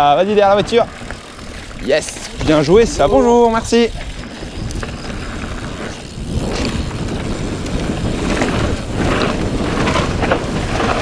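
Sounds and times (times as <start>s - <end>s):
bike tyres rumbling over gravel: 0.0s - 11.0s
wind buffeting microphone: 0.0s - 11.0s.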